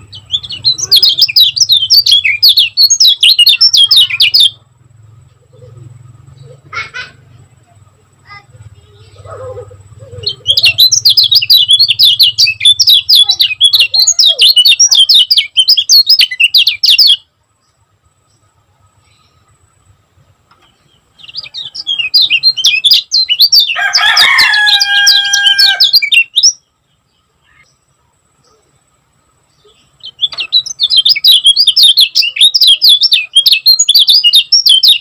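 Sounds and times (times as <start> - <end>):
bird singing high chirps: 0.0 - 19.9, 20.5 - 35.0.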